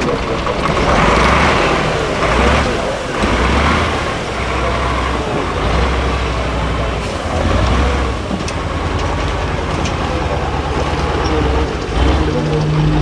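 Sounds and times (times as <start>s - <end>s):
truck diesel engine revving: 0.0s - 13.0s.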